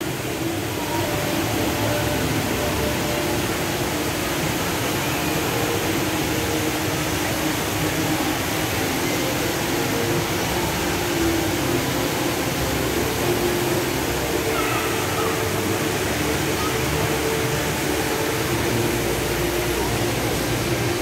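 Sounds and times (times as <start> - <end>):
indoor waterfall roaring: 0.0 - 21.0.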